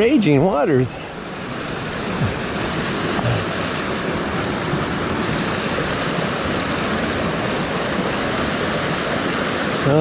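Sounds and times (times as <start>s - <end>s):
stream rushing: 0.0s - 10.0s.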